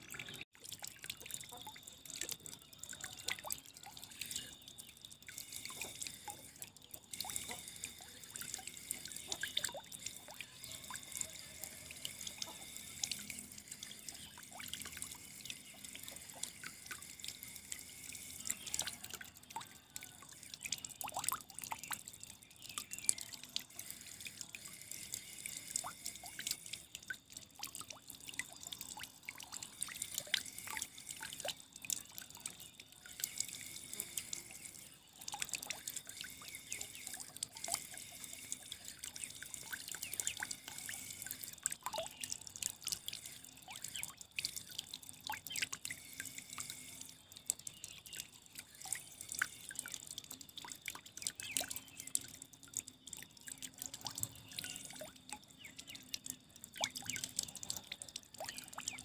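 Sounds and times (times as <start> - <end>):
water drips and plinks: 0.0 - 59.0
water trickling: 0.0 - 59.0.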